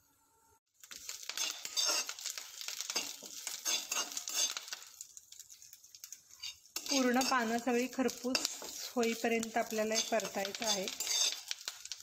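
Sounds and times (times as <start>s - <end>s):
light oil sizzle: 0.7s - 12.0s
spatula scraping a pan: 0.9s - 12.0s.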